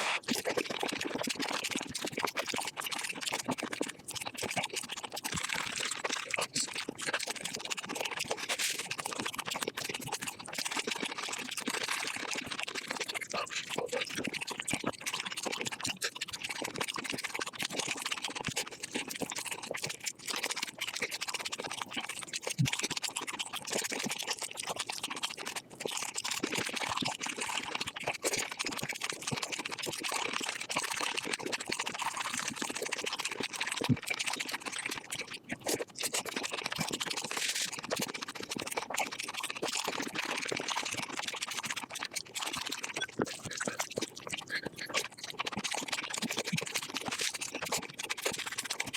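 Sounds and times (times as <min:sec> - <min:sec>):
chewing and crunching: 0:00.0 - 0:48.9.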